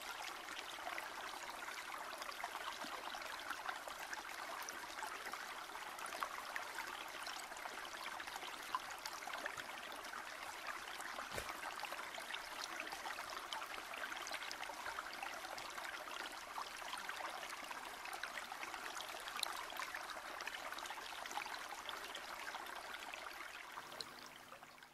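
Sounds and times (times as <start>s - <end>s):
stream trickling: 0.0s - 24.9s.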